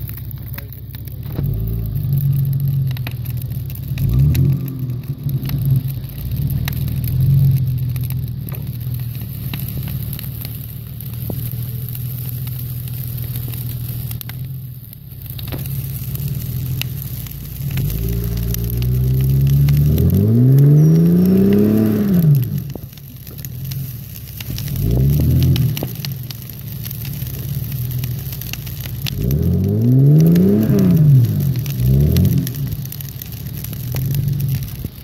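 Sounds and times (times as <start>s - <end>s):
crackling clicks: 0.0s - 35.0s
car engine revving under load: 0.9s - 12.3s, 14.2s - 35.0s.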